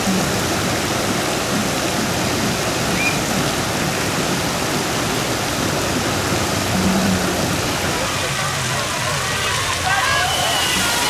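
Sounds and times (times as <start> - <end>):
waves rushing and breaking: 0.0 - 11.0.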